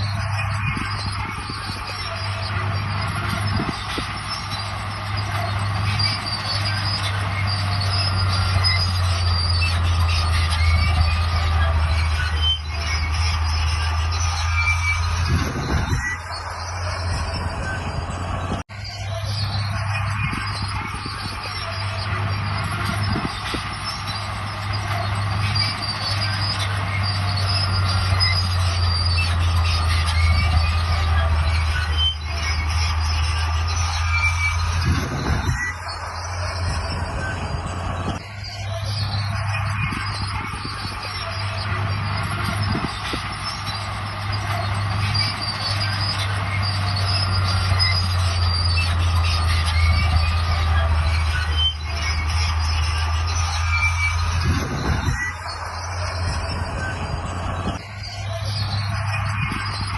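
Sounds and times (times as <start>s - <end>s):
diesel engine running: 0.0s - 59.9s
steel tracks squealing and rattling: 0.0s - 59.9s.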